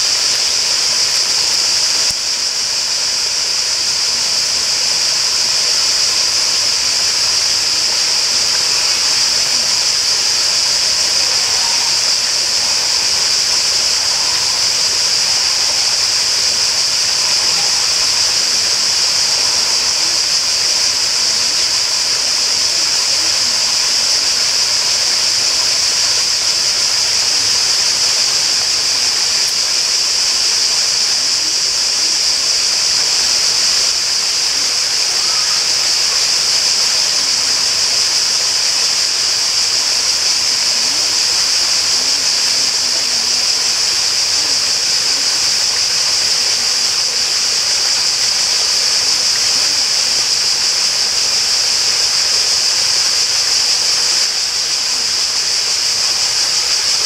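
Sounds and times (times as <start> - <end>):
rushing falling water: 0.0 - 57.0.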